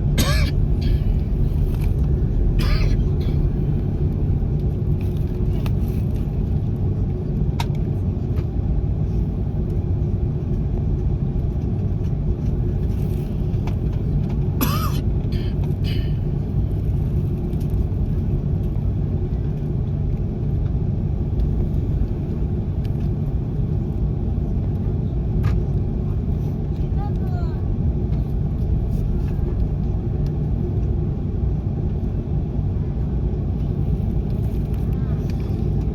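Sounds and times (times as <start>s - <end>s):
airliner cabin engine rumble: 0.0s - 35.9s.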